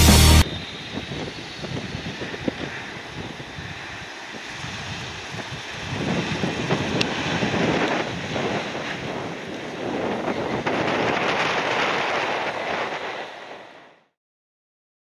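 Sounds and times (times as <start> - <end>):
jet engines rumbling: 0.0 - 14.1
wind buffeting microphone: 0.4 - 13.9.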